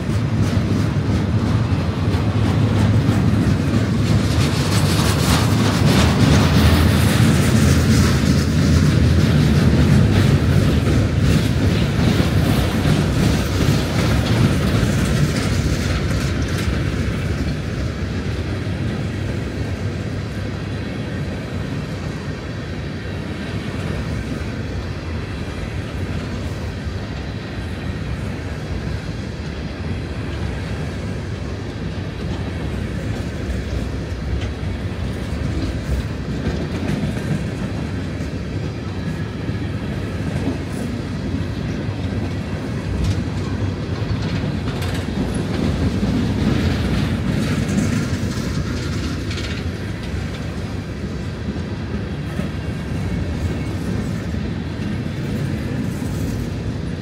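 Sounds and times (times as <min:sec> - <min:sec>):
freight train low rumble: 0:00.0 - 0:57.0
wheels clacking over rail joints: 0:00.0 - 0:57.0.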